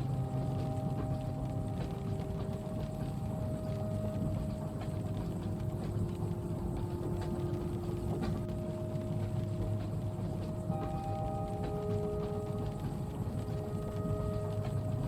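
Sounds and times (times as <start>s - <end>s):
constant hum: 0.0s - 15.0s
rain on a window: 0.0s - 15.0s
train running rumble: 0.0s - 15.0s.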